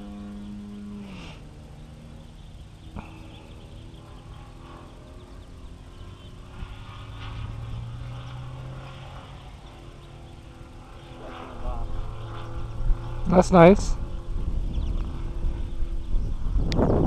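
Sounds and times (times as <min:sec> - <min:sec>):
model plane engine and propeller: 0:00.0 - 0:17.0.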